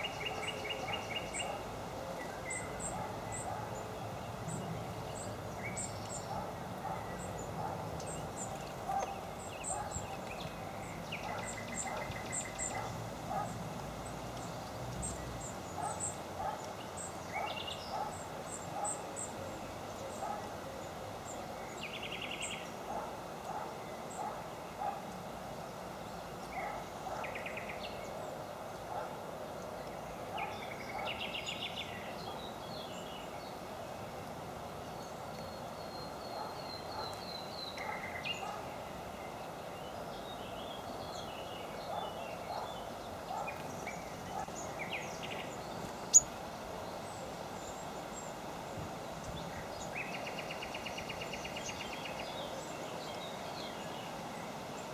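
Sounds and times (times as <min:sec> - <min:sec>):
small birds calling: 0:00.0 - 0:25.2, 0:34.9 - 0:54.9.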